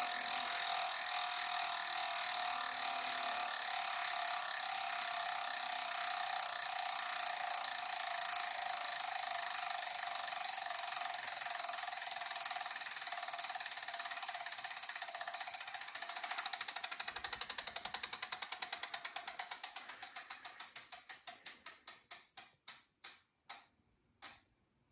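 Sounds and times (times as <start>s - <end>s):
bicycle freehub ticking: 0.0s - 24.5s.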